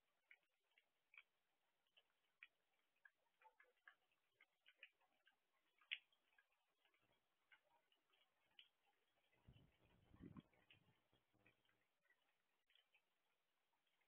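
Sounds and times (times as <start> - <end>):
raindrops dripping on hard surface: 0.0 - 14.0.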